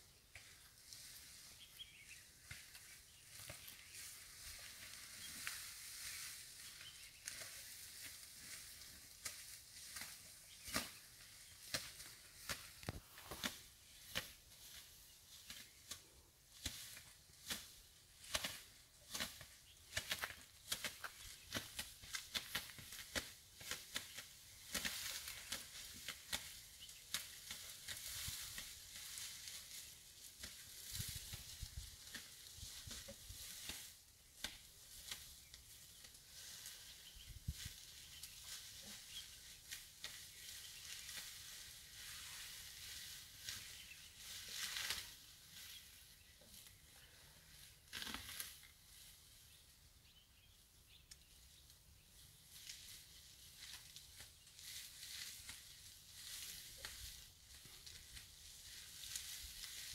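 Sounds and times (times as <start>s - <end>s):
faint crackling and rustling: 0.2s - 49.7s, 50.9s - 59.9s.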